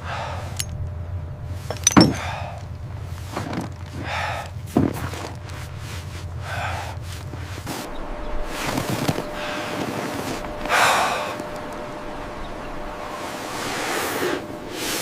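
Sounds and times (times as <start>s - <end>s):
steady low rumble: 0.0s - 14.8s.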